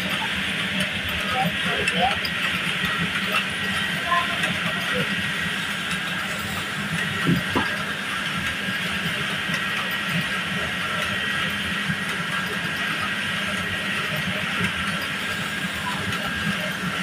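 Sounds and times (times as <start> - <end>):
knitting machines running: 0.0 - 17.0.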